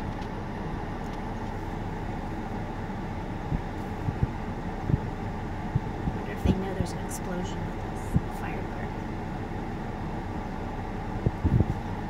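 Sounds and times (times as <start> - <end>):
fire low rumble: 0.0 - 12.0.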